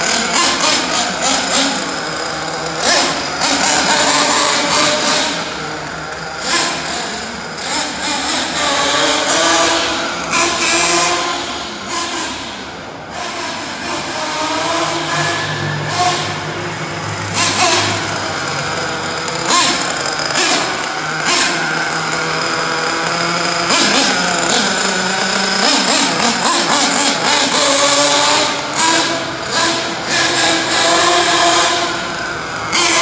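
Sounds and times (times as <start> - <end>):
rc car engine revving: 0.0 - 33.0.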